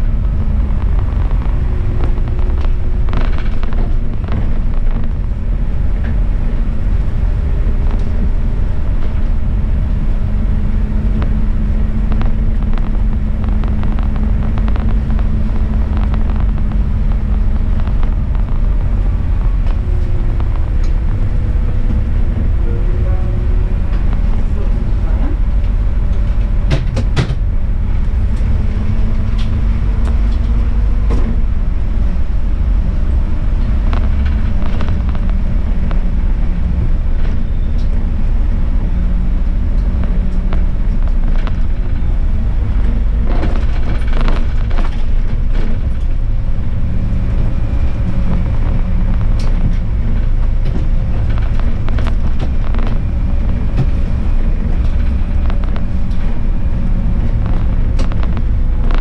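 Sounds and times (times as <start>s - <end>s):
bus engine running: 0.0s - 59.0s
light rattles and clicks: 0.0s - 59.0s
road noise: 0.0s - 59.0s.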